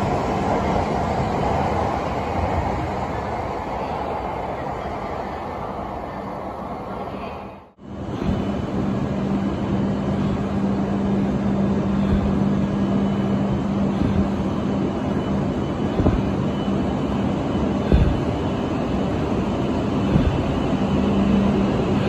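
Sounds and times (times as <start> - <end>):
train equipment humming: 0.0 - 22.0.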